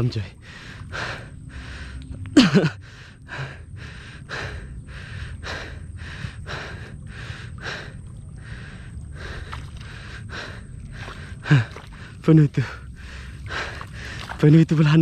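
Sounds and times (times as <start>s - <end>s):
man panting: 0.4s - 14.4s.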